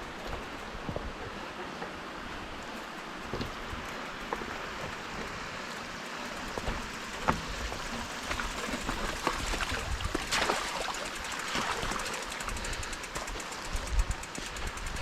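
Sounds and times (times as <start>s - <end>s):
creek water running over rocks: 1.5s - 14.6s.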